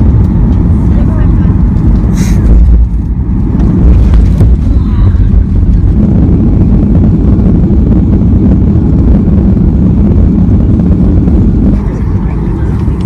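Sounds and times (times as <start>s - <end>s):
jet cabin rumble during landing: 0.0s - 13.0s.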